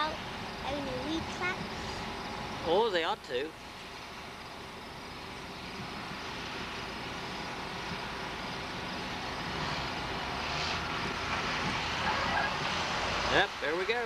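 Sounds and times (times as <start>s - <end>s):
combine harvester droning: 0.0s - 14.0s.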